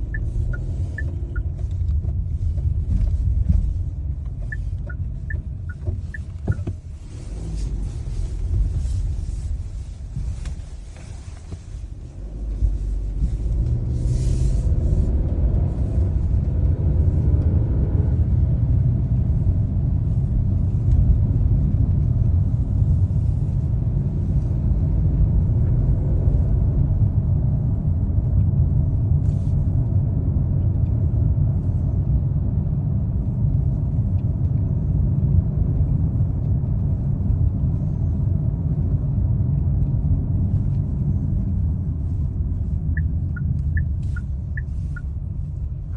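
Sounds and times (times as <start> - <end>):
car engine accelerating: 0.0 - 45.9
road and drivetrain rumble: 0.0 - 45.9.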